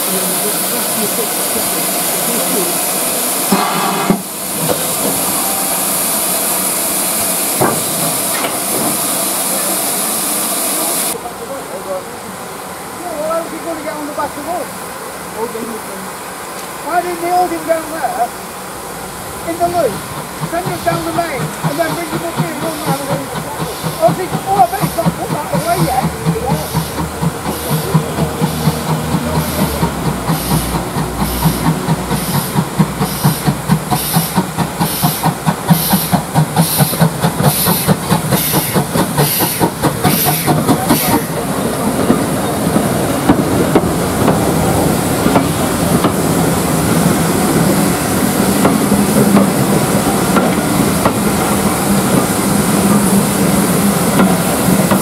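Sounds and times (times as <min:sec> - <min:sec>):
steam locomotive exhaust beats: 0:00.0 - 0:11.2, 0:16.7 - 0:55.0
coaches rumbling and wheel clatter: 0:00.0 - 0:55.0.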